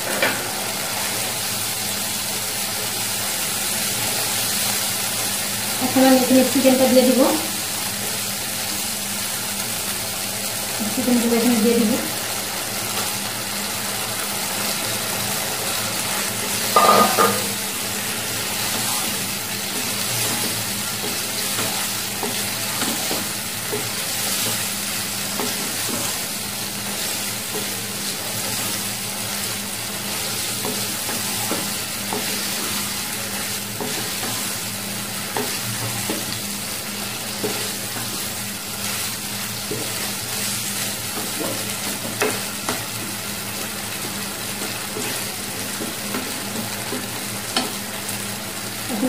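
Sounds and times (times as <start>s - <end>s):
chicken sizzling in a wok: 0.0s - 49.0s.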